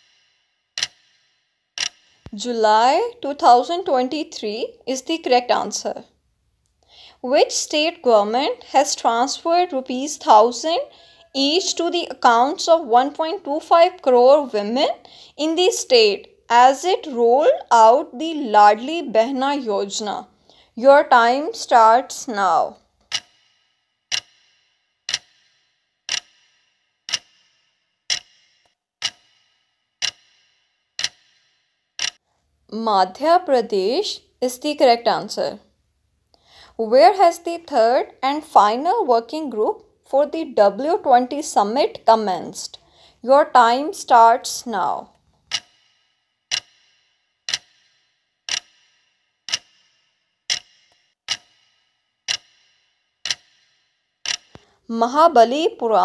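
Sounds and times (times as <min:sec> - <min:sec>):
clock ticking: 0:00.0 - 0:06.1, 0:07.2 - 0:32.2, 0:37.2 - 0:56.0.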